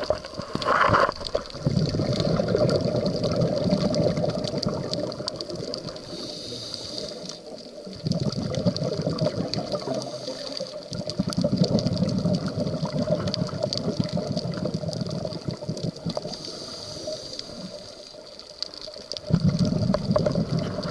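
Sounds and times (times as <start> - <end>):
fine crackling clicks: 0.0 - 20.9
underwater rushing water: 0.0 - 20.9.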